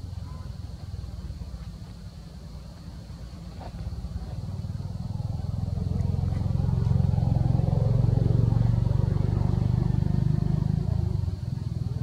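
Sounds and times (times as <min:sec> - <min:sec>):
engine running rumble: 0:00.0 - 0:12.0.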